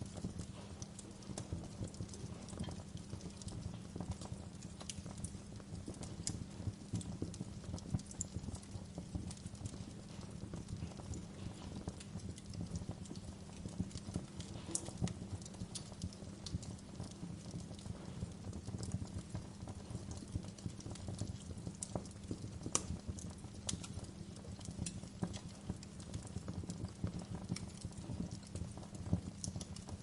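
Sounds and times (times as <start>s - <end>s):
fire crackling and popping: 0.0s - 30.0s
flames rumbling: 0.0s - 30.0s.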